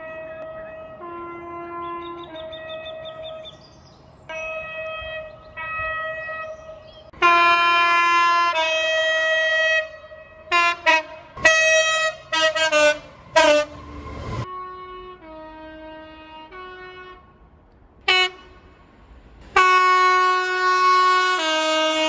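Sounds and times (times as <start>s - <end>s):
train air horn chords: 0.0s - 3.1s, 4.3s - 18.8s, 19.4s - 22.0s.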